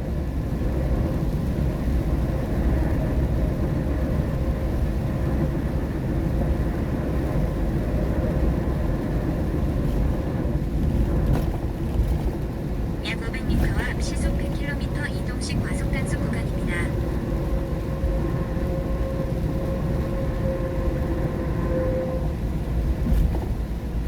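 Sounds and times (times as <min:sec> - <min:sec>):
road and tyre rumble in car: 0:00.0 - 0:24.0.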